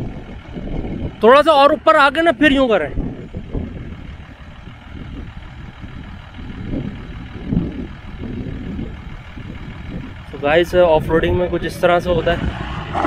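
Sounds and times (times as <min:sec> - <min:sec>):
jeep engine running under load: 0:00.0 - 0:13.0.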